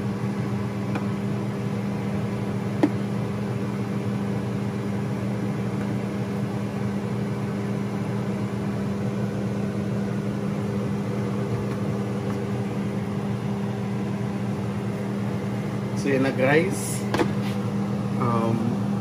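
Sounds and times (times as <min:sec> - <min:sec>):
appliance fan motor humming: 0:00.0 - 0:19.0.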